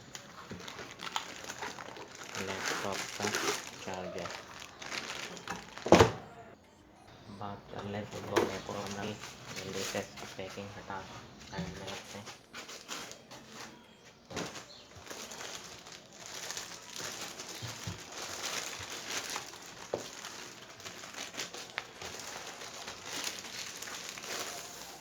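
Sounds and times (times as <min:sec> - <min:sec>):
packaging crinkling and rustling: 0:00.0 - 0:06.5, 0:07.8 - 0:25.0.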